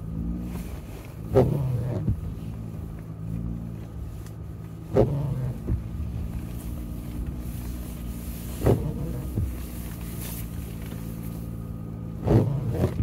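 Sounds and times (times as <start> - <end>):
engine running at low revs: 0.0 - 13.0
windshield wipers sweeping: 0.1 - 13.0.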